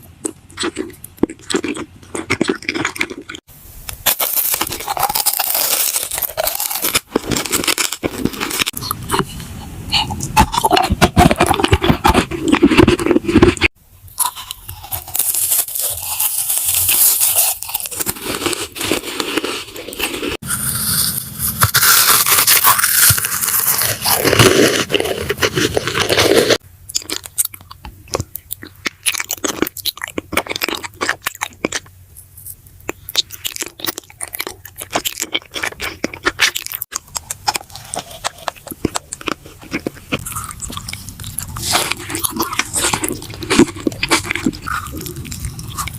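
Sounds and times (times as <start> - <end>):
crisp bites and crunching: 0.0 - 45.9
wet chewing: 0.0 - 45.9.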